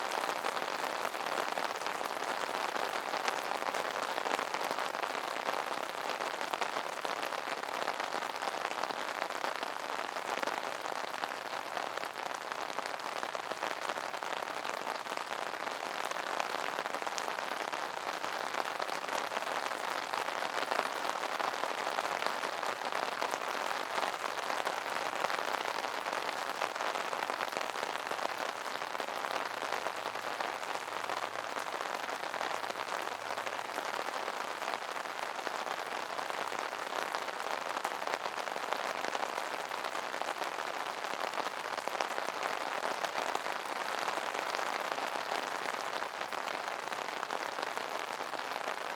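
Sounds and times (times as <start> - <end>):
rain on an umbrella: 0.0 - 48.9.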